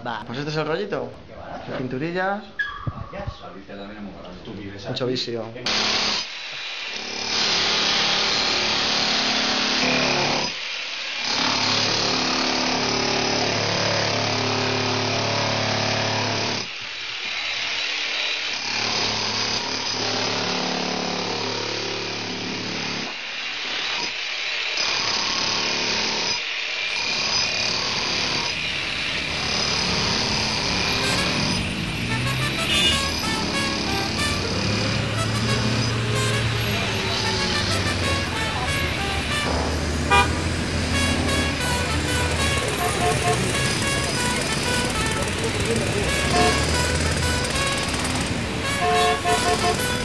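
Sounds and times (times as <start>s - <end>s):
electric drill boring into tile: 5.7s - 39.4s, 40.5s - 50.0s.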